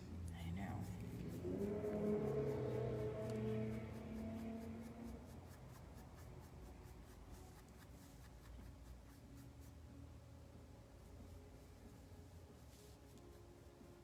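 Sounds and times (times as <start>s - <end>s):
small paintbrush strokes: 0.2s - 10.2s, 10.9s - 14.0s.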